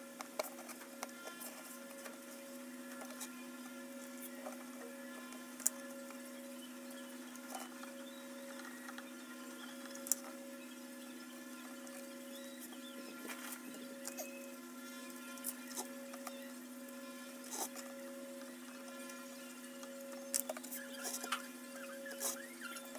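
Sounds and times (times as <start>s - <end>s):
electrical hum: 0.0s - 22.9s.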